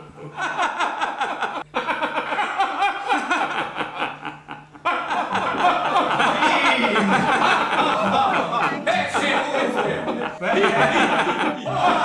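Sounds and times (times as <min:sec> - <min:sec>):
man laughing hard: 0:00.0 - 0:12.0.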